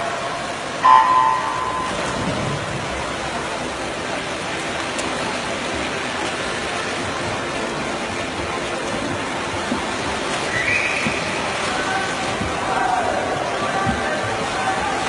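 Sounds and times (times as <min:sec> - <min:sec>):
swimmers splashing water: 0:00.0 - 0:15.0.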